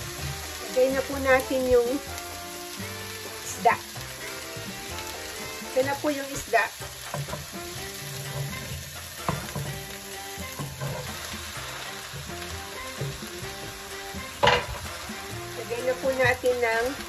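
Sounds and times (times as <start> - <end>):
background music with held notes: 0.0 - 17.0
onions sizzling in a frying pan: 0.0 - 17.0.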